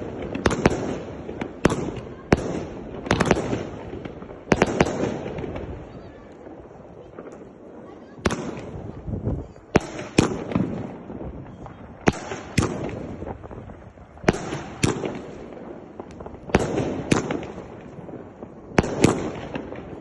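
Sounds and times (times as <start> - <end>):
firework bangs: 0.0 - 20.0
firework crackling: 0.0 - 20.0.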